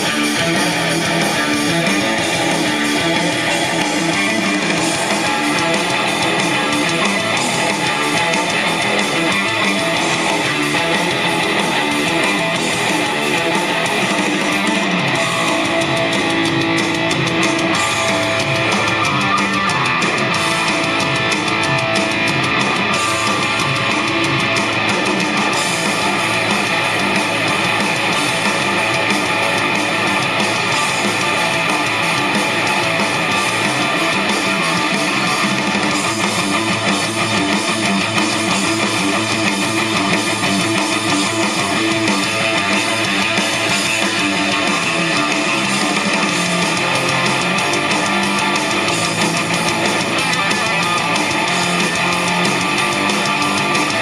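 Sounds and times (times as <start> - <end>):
guitar music from cassette: 0.0 - 54.0.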